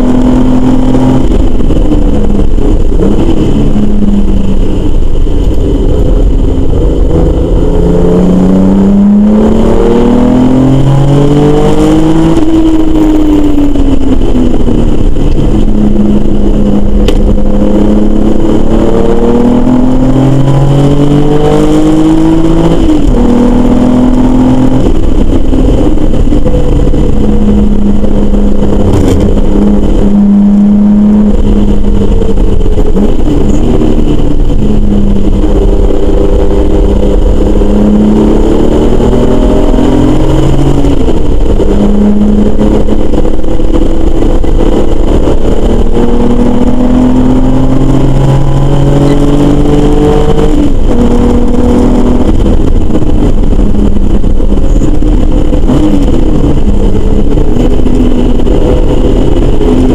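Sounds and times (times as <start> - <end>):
race car engine revving through gears: 0.0 - 59.9.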